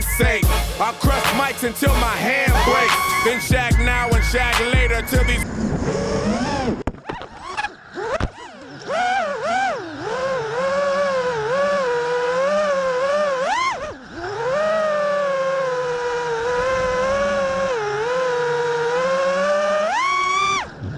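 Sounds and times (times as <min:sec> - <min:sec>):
drone propellers whining: 0:00.0 - 0:20.9.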